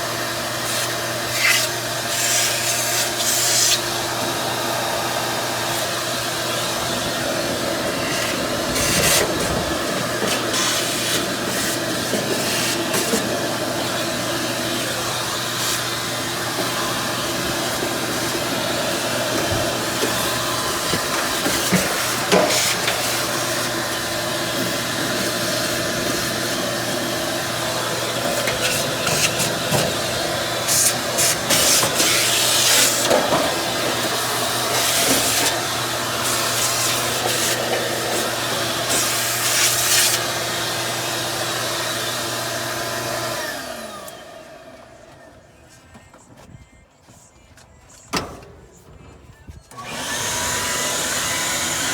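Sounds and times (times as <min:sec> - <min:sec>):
motor humming and hissing: 0:00.0 - 0:46.0, 0:49.6 - 0:51.9.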